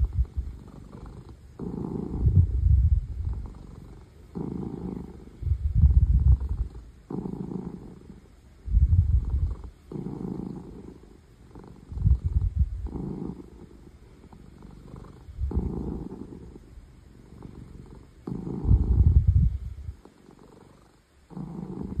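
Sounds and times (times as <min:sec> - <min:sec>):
cat purring loudly: 0:00.0 - 0:22.0.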